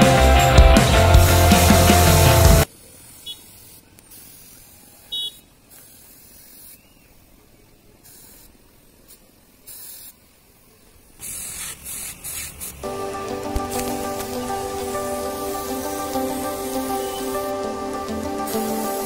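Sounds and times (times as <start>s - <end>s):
paint spray gun hissing: 0.9s - 7.0s, 8.0s - 10.3s, 11.1s - 19.0s.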